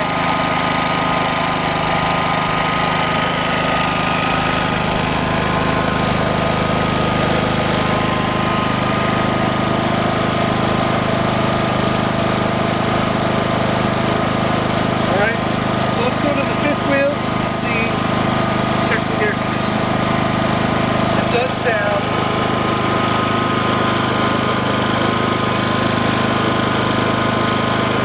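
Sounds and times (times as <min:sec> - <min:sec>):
generator running: 0:00.0 - 0:28.0.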